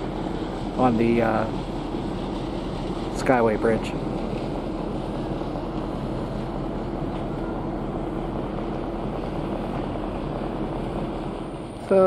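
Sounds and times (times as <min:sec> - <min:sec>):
ship machinery hum: 0:00.0 - 0:12.0
wind: 0:00.0 - 0:12.0.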